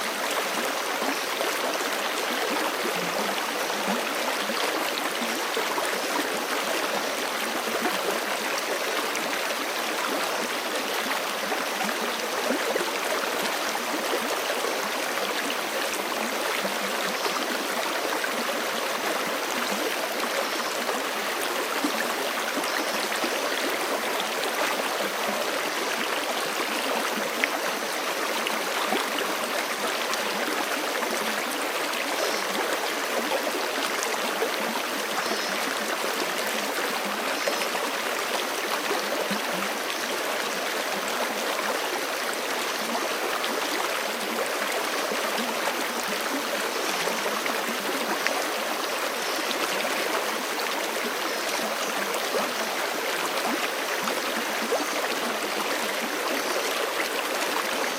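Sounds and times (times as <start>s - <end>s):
creek flowing over rocks: 0.0s - 57.9s.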